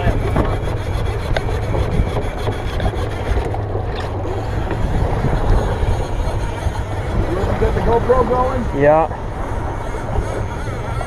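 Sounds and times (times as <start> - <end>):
boat noise: 0.0 - 11.0
fishing reel grinding: 0.0 - 11.0
low wind rumble: 0.0 - 11.0.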